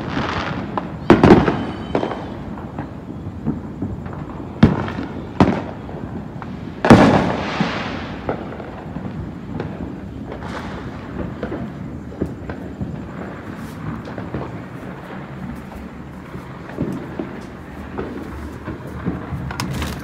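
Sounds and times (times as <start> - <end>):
fireworks and firecrackers banging: 0.0 - 20.0.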